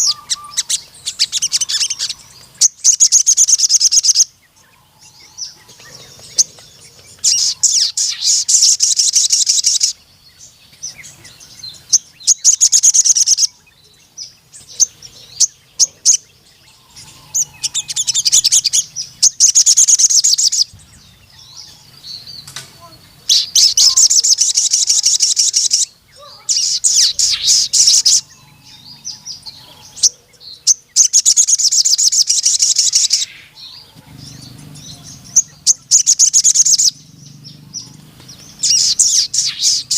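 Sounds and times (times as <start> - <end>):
bird singing rapid trills: 0.0 - 39.9
thin bird chirps: 0.0 - 39.9.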